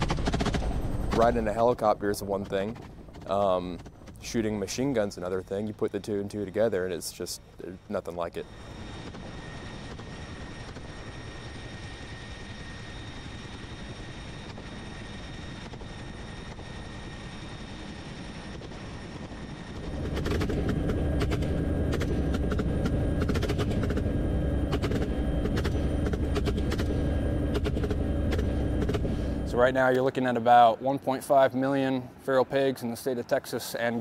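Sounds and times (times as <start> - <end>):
helicopter rotor and turbine whine: 0.0 - 34.0.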